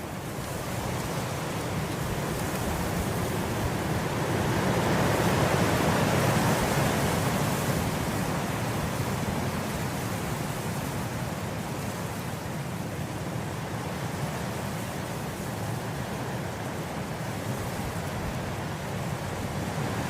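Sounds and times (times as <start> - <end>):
wind blowing through grass: 0.0 - 20.0.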